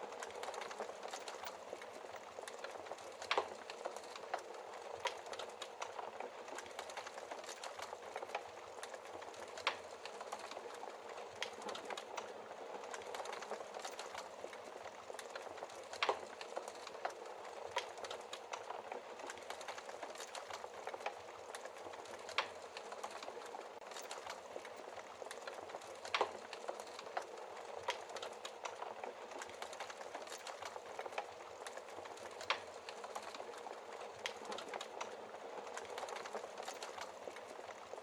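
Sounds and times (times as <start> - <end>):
wood fire crackling in fireplace: 0.0 - 38.0.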